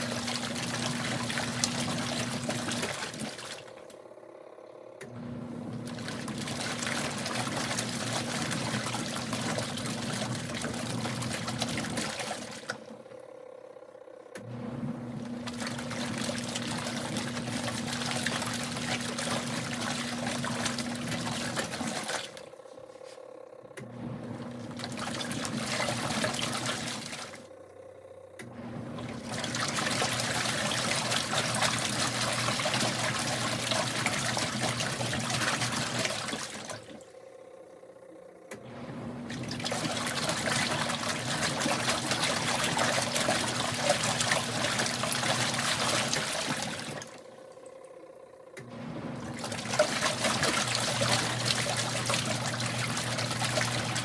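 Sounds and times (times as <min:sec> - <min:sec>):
agitator churning water: 0:00.0 - 0:04.1, 0:05.1 - 0:13.2, 0:14.4 - 0:23.0, 0:23.8 - 0:37.4, 0:38.5 - 0:54.0
washing machine motor humming: 0:00.0 - 0:54.0.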